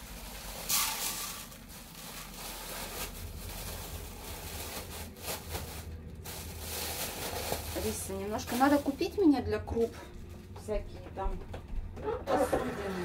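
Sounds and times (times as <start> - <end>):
plastic bag rustling and crinkling: 0.0 - 10.5.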